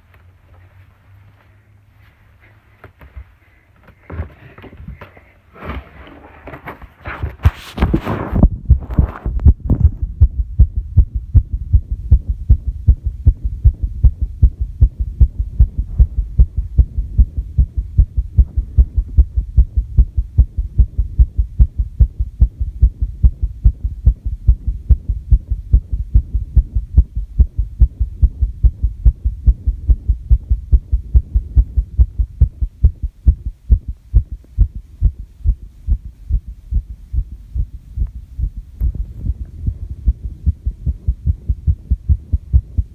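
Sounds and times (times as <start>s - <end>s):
fast heartbeat thuds: 7.5s - 42.9s.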